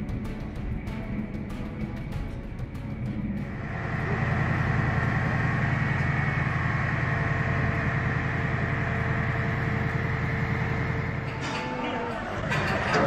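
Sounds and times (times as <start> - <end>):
diesel engine low rumble: 0.0 - 13.0
thin steady whine: 0.0 - 13.0.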